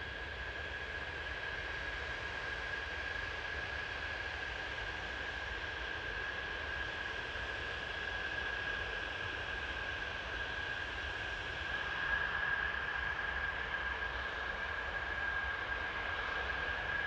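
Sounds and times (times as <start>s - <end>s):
jet engines at low power: 0.0s - 17.0s.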